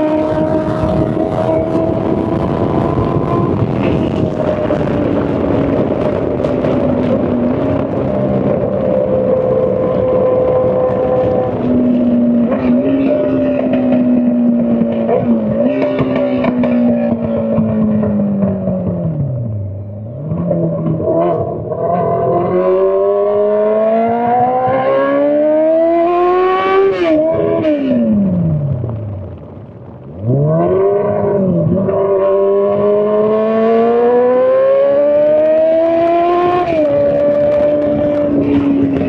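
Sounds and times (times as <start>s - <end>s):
motorcycle engine revving: 0.0s - 29.2s, 30.2s - 39.0s.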